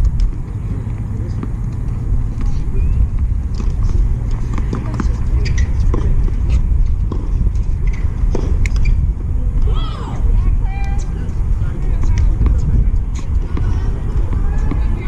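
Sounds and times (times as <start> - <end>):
tennis balls bouncing and struck: 0.0 - 9.0, 11.7 - 15.0
steady low rumble: 0.0 - 15.0
faint voices: 0.4 - 7.7, 8.4 - 15.0.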